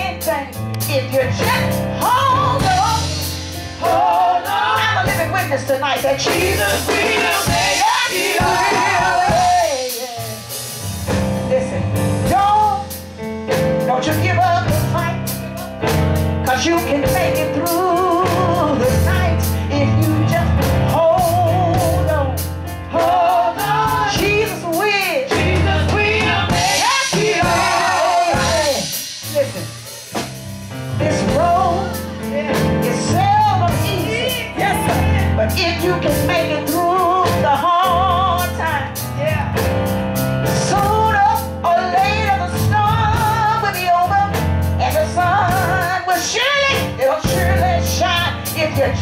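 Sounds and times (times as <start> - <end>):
woman singing into a microphone: 0.0 - 3.2, 3.8 - 10.3, 16.5 - 29.7, 31.0 - 39.4, 40.6 - 49.0
drum kit steady beat: 0.0 - 49.0.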